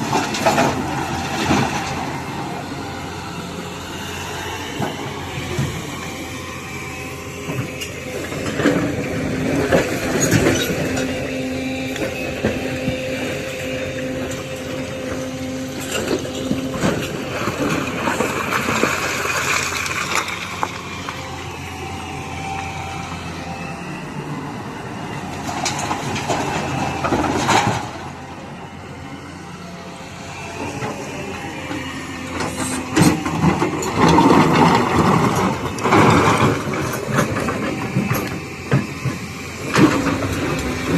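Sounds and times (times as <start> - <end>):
excavator diesel engine droning: 0.0 - 40.9.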